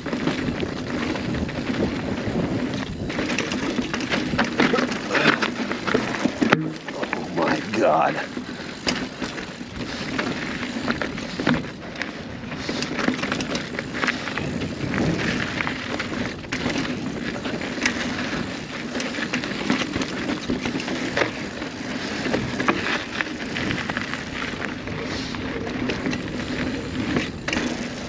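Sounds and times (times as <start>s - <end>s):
bike clicking and knocking on bumps: 0.0s - 28.0s
bike tyres on dirt and rock: 0.0s - 28.0s.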